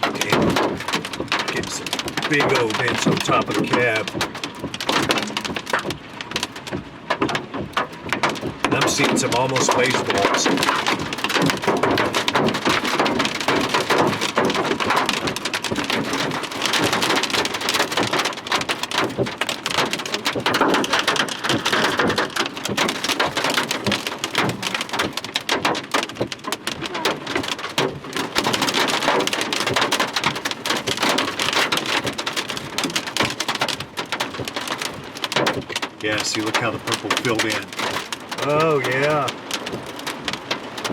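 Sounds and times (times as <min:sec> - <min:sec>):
hail hitting vehicle roof: 0:00.0 - 0:40.9.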